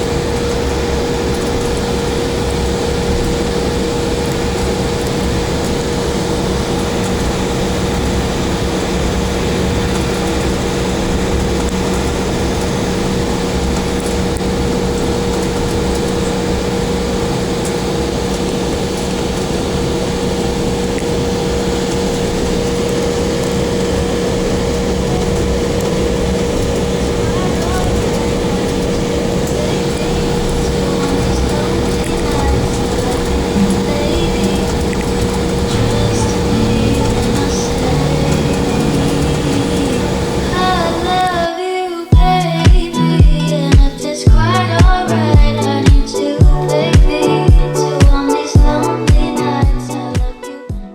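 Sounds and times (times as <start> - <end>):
cabin air rush: 0.0 - 50.4
jet engines idling: 0.0 - 50.5
mid-pitched hum: 0.0 - 50.9.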